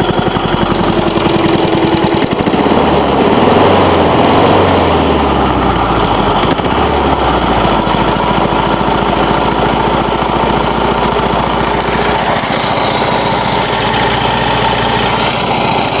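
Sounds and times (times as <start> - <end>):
lawn mower engine idling: 0.0 - 16.0.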